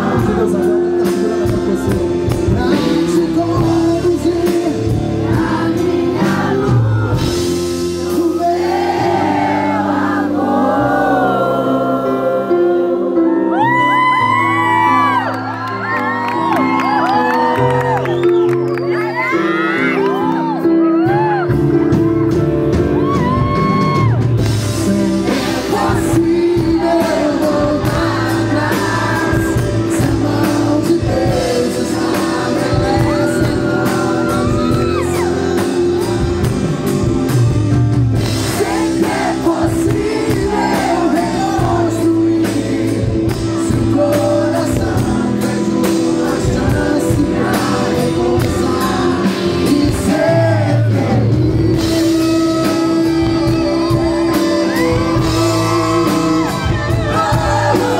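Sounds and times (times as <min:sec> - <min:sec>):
live band with singing: 0:00.0 - 0:57.9.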